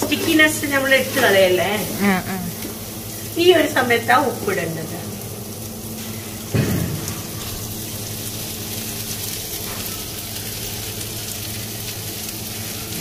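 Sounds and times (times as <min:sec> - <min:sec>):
rice sizzling in pot: 0:00.0 - 0:13.0.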